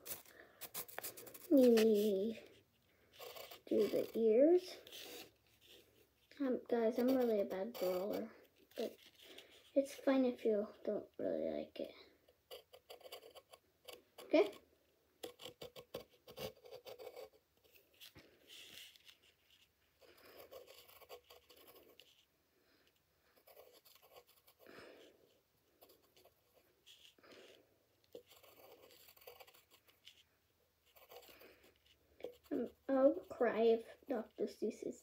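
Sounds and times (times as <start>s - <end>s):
pencil scratching on paper: 0.0s - 6.1s, 6.8s - 9.7s, 12.5s - 14.6s, 15.2s - 22.3s, 23.4s - 24.7s, 25.7s - 34.4s.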